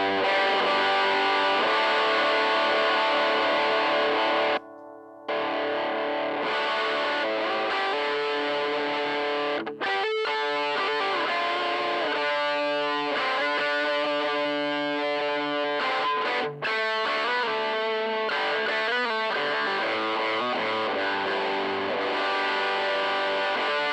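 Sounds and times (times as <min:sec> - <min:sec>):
overdriven electric guitar: 0:00.0 - 0:23.9.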